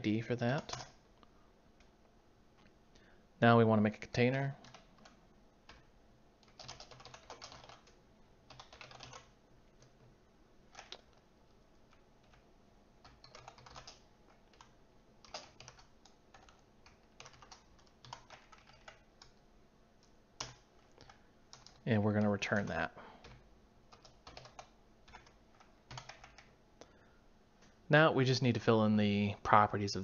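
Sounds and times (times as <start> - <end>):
faint keyboard typing: 0.0 - 3.1, 3.8 - 27.0.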